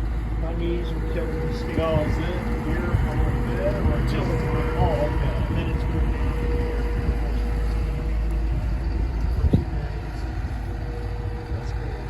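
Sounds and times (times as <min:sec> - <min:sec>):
heavy diesel machinery rumbling: 0:00.0 - 0:12.0
thin constant whine: 0:00.0 - 0:12.0.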